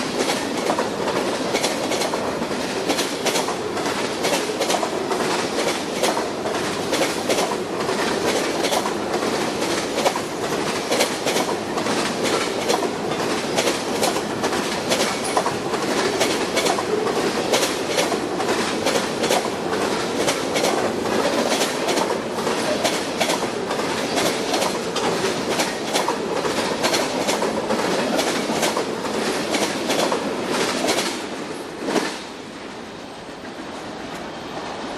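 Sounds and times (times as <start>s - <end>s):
train wheels clicking over rail joints: 0.0s - 32.7s
freight train rolling past: 0.0s - 34.9s.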